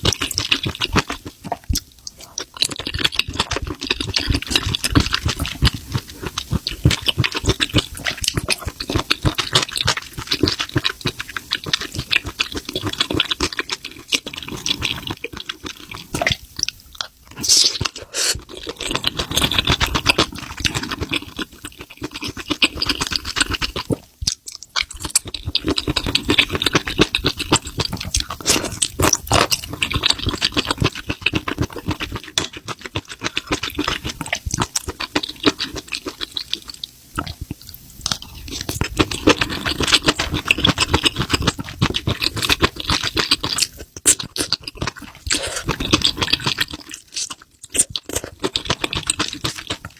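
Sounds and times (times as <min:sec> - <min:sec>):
wet chewing and slurping: 0:00.0 - 0:49.9.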